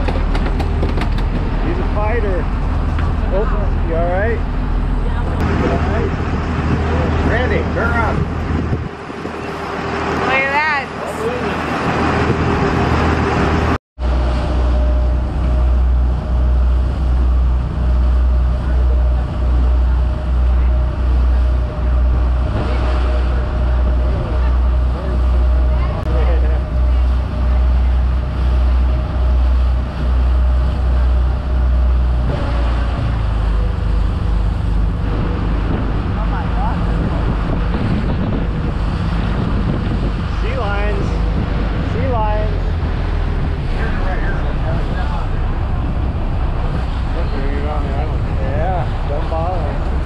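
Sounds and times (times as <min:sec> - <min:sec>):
boat engine running: 0:00.0 - 0:50.0
rushing water: 0:00.0 - 0:50.0
wind: 0:00.0 - 0:50.0.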